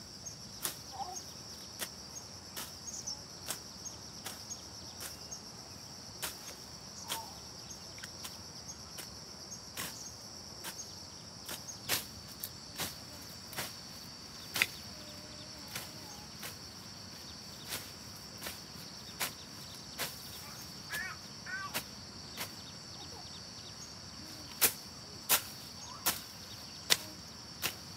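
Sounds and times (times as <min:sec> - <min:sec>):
high insect chirring: 0:00.1 - 0:27.9.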